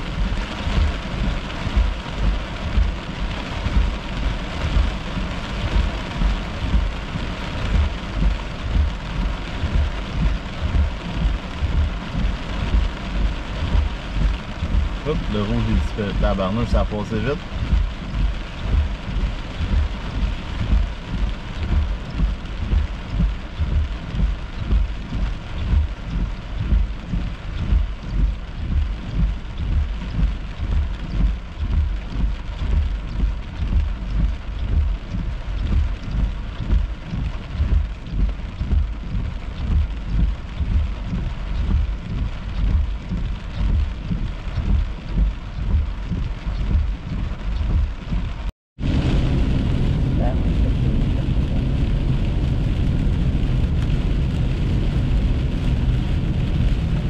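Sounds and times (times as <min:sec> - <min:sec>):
fluttering low rumble: 0:00.0 - 0:57.0
heavy rain pounding on a car: 0:00.0 - 0:57.0.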